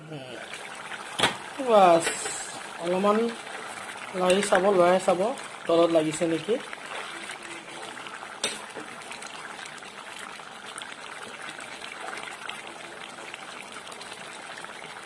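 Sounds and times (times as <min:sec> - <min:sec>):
gravy bubbling in a pot: 0:00.0 - 0:15.0
ladle stirring and sloshing: 0:00.4 - 0:15.0.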